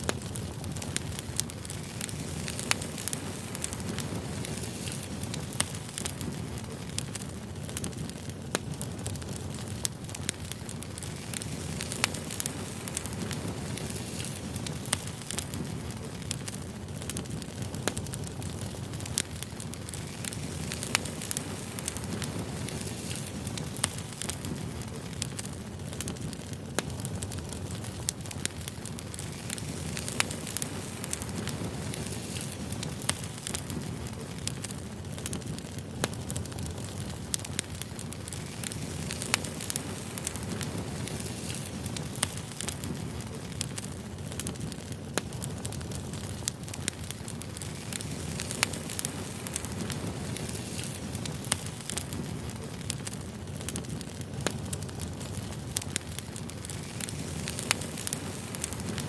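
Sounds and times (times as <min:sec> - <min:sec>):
hiss of flame: 0:00.0 - 0:59.0
logs crackling and popping: 0:00.0 - 0:59.0.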